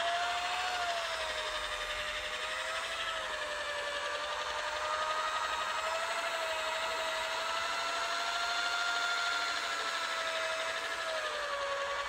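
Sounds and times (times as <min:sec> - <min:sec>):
electric polisher motor whine: 0:00.0 - 0:12.0.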